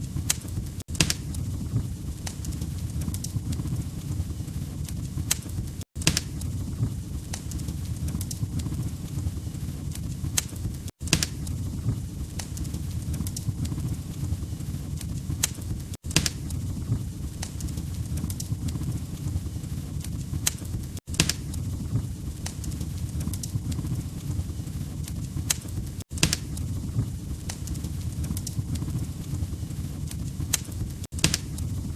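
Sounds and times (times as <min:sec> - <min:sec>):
fireplace fire crackling: 0:00.0 - 0:31.9.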